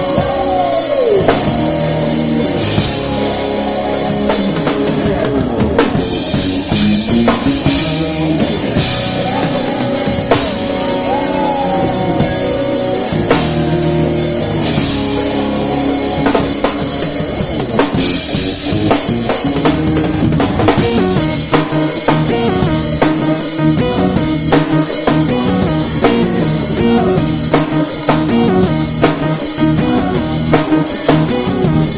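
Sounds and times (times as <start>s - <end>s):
drum kit beat: 0.0s - 31.9s
live rock band playing: 0.0s - 31.9s.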